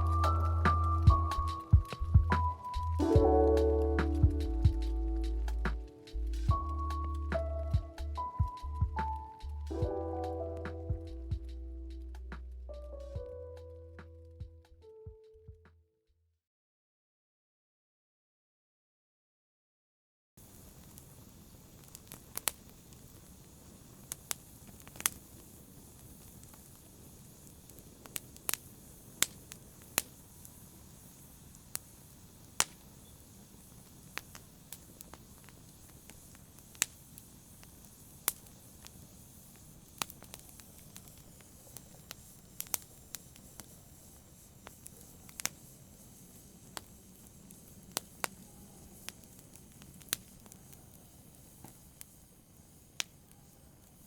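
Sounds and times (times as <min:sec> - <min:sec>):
faint low hiss: 0:00.0 - 0:14.4, 0:20.4 - 0:54.0
wood fire crackling: 0:00.0 - 0:14.8, 0:20.4 - 0:54.0.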